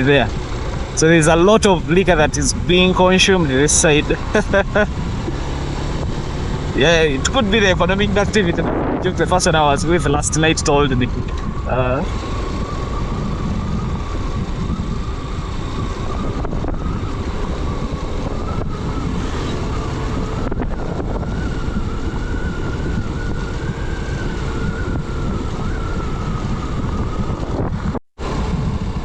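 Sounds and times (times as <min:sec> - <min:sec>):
motorcycle engine running: 0:00.0 - 0:29.0
wind noise on microphone: 0:00.0 - 0:29.0.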